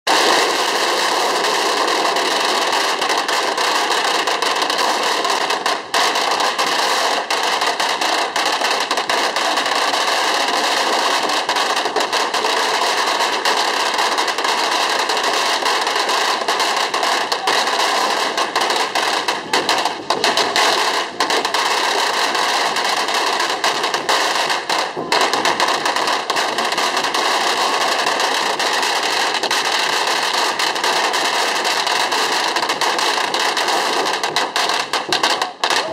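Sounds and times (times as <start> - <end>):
firecrackers crackling: 0.0 - 35.9.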